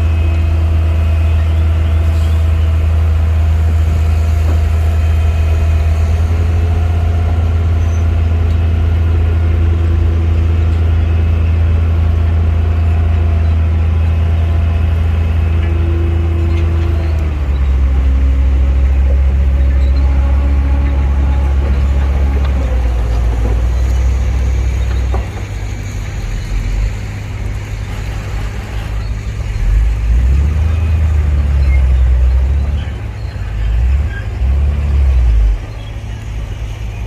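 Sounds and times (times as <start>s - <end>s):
diesel earthmoving machinery droning: 0.0s - 37.0s.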